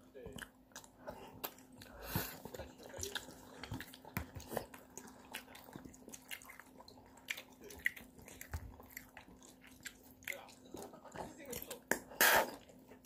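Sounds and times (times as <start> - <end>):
child chewing noodles: 0.0 - 13.0.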